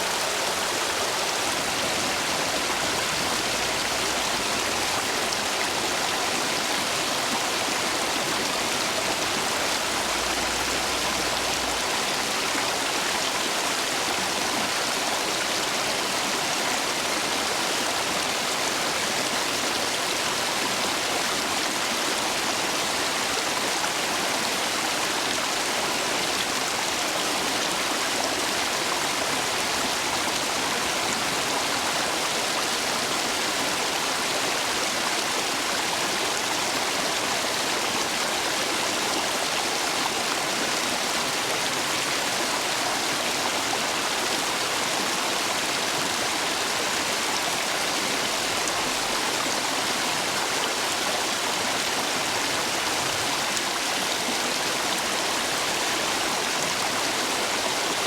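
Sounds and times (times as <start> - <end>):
stream water rushing over stones: 0.0 - 58.0.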